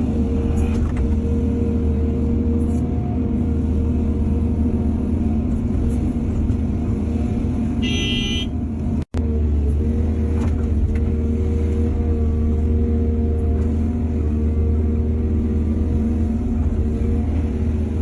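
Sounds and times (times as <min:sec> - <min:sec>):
diesel excavator engine running: 0:00.0 - 0:18.0.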